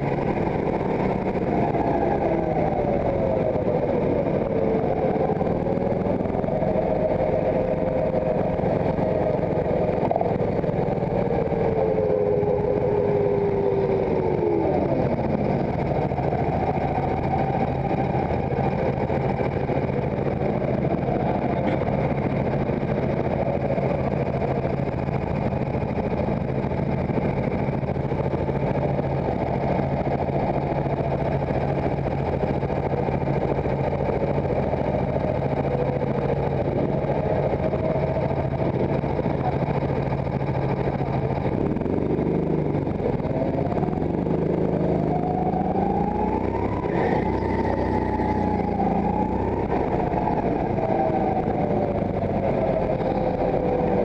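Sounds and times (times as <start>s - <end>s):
go-kart engine: 0.0s - 54.0s.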